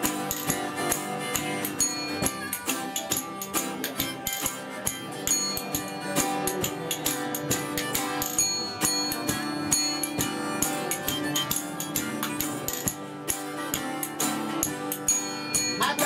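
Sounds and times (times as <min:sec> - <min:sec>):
acoustic guitars picking and strumming: 0:00.0 - 0:16.0
spoons clacking rhythm: 0:00.0 - 0:16.0.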